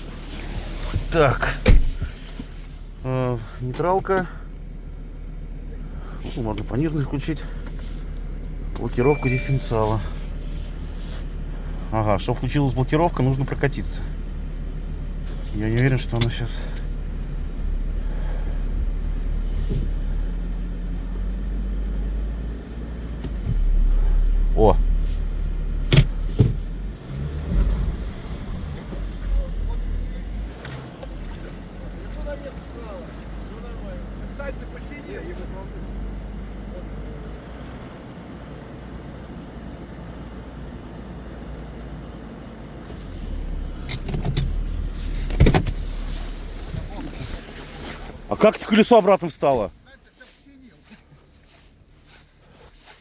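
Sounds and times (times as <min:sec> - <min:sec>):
car engine low rumble: 0:00.0 - 0:53.0.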